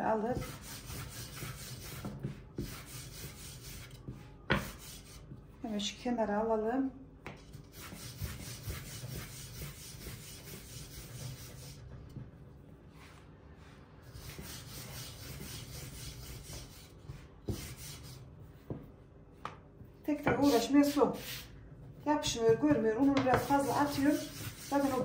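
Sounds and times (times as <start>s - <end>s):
rolling pin rubbing over dough: 0.0s - 5.6s, 7.6s - 12.2s, 12.9s - 18.8s, 20.1s - 25.0s.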